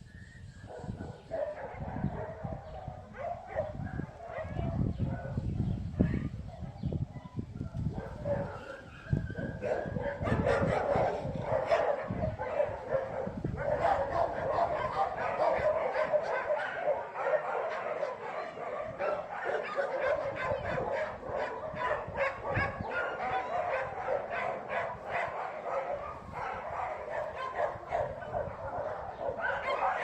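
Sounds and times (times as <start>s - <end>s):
dogs barking and yipping: 0.6s - 30.0s.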